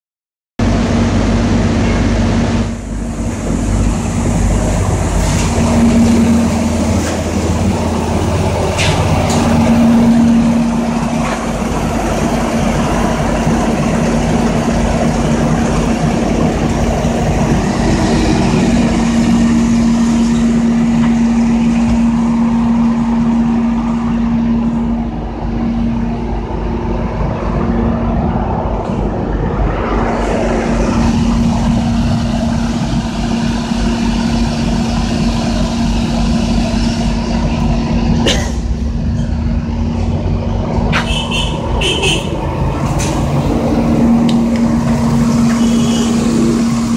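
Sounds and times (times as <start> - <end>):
car engine running: 0.6 - 28.8, 30.6 - 46.9
steady low hum: 0.6 - 46.9.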